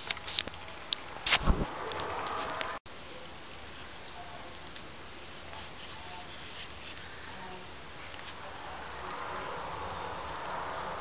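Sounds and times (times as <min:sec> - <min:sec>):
low room hiss: 0:00.1 - 0:11.0.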